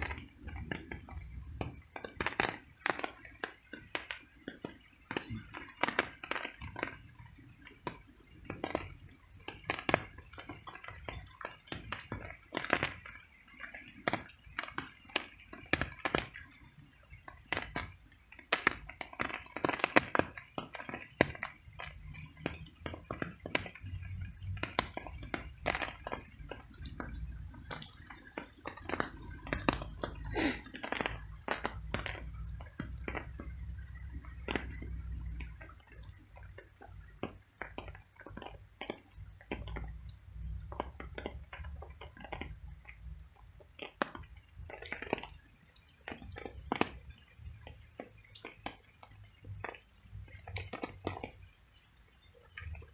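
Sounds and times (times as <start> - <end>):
rain dripping: 0.0 - 52.9.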